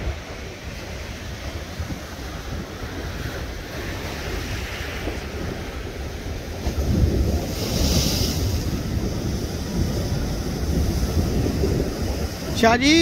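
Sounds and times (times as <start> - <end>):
surf breaking over rocks: 0.0 - 13.0
wind rumbling on microphone: 0.0 - 13.0.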